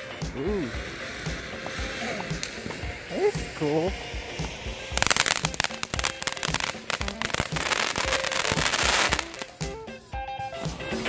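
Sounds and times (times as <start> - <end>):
firework hissing and crackling: 0.0 - 9.8.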